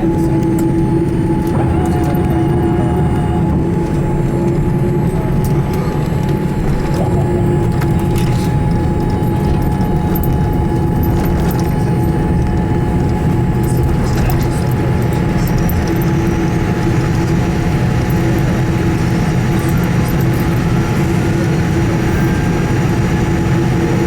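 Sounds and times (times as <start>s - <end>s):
aircraft cabin rumble: 0.0s - 24.0s
steady hum: 0.0s - 24.0s.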